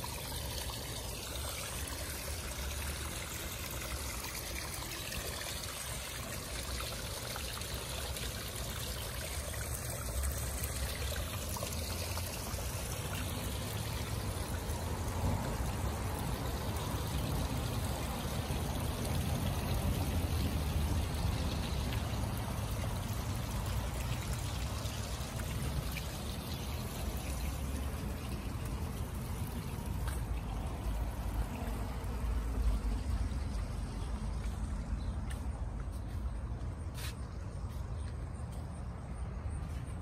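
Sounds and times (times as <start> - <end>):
small waterfall splashing over stones: 0.0 - 35.5.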